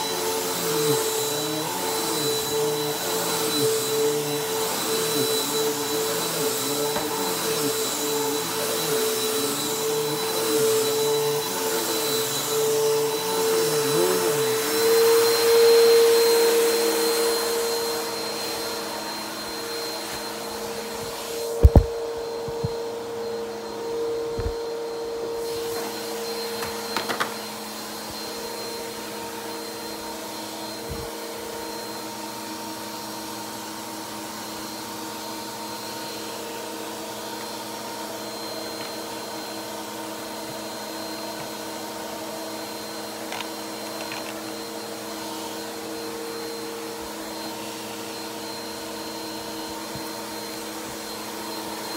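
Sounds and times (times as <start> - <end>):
upright vacuum cleaner running: 0.0 - 51.9.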